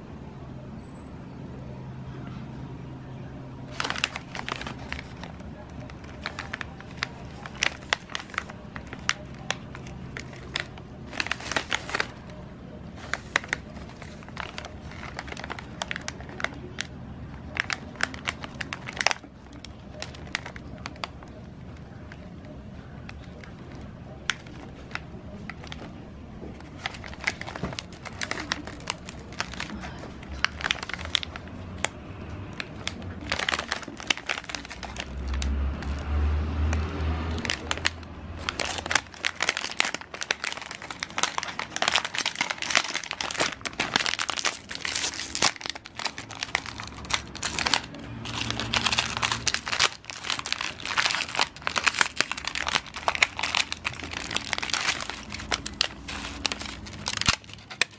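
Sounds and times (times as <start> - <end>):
quiet background music: 0.0 - 57.9
plastic snack bag crinkling: 3.7 - 57.9.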